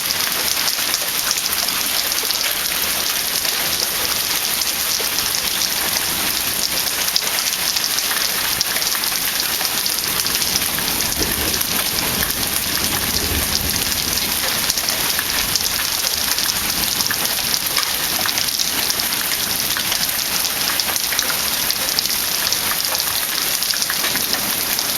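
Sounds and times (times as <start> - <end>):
rain and hail pelting: 0.0 - 24.9.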